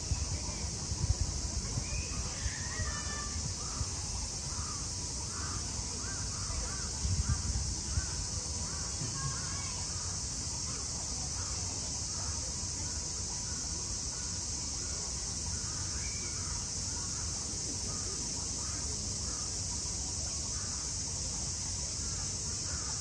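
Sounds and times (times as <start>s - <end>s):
cicadas buzzing: 0.0s - 23.0s
faint voices: 0.0s - 23.0s.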